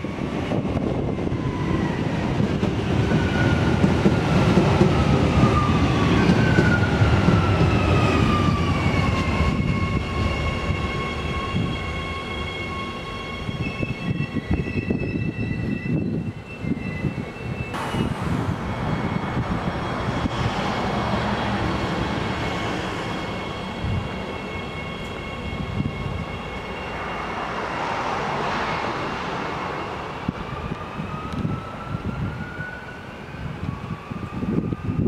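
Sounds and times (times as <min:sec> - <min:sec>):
train wheels rumbling on rails: 0:00.0 - 0:32.7.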